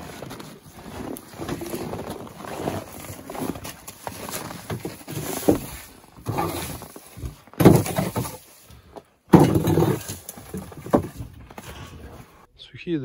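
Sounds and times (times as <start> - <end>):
rake scraping wood chips and snow: 0.0 - 12.5.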